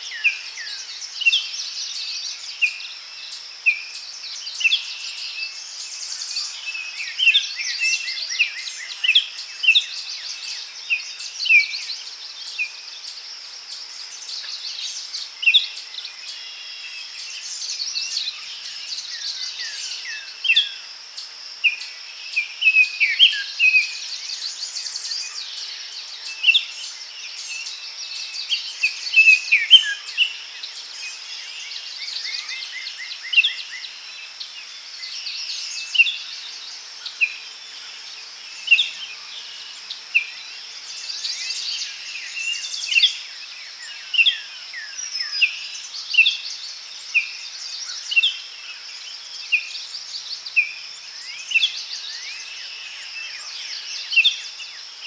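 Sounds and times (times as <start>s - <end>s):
birds singing and chirping: 0.0s - 55.0s.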